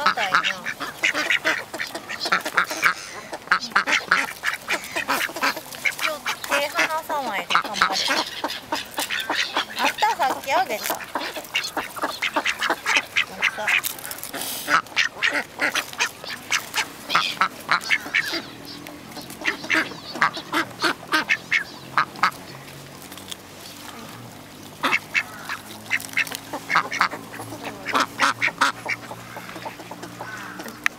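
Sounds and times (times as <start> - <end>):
ducks quacking: 0.0 - 30.9.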